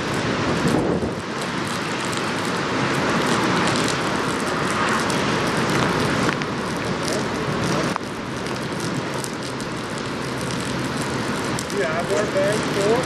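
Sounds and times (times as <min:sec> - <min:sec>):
rain: 0:00.0 - 0:13.0
traffic rumble: 0:00.0 - 0:13.0
wind: 0:00.0 - 0:13.0.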